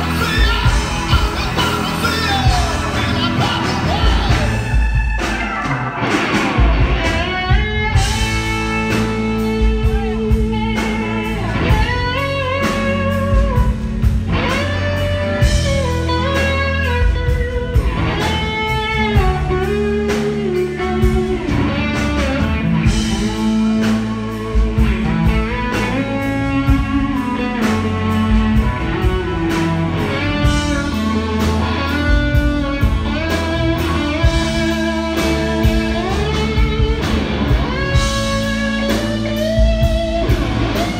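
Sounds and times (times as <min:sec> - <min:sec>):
electric guitar lead: 0:00.0 - 0:40.9
rock band playing: 0:00.0 - 0:40.9.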